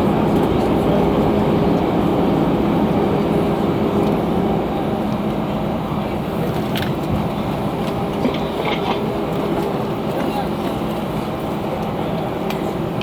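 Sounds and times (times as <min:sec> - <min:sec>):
airplane cabin engine and rolling noise: 0:00.0 - 0:13.0.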